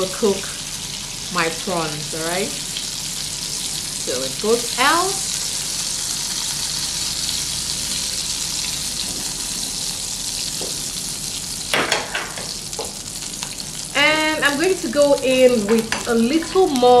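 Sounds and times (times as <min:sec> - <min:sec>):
prawns sizzling in a frying pan: 0:00.0 - 0:17.0.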